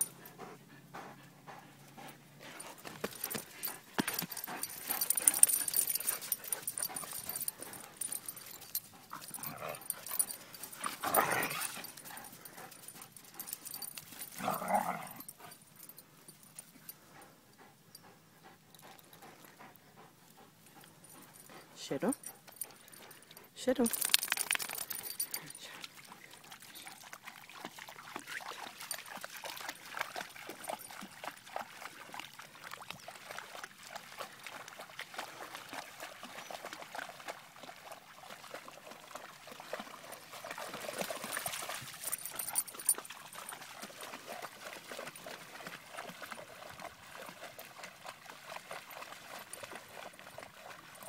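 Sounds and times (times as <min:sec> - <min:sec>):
dogs splashing in shallow water: 0:00.0 - 0:51.0.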